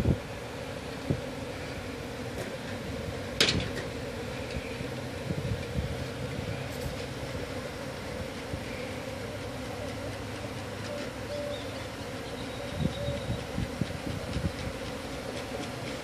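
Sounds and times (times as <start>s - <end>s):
honeybees droning hum: 0.0s - 16.0s.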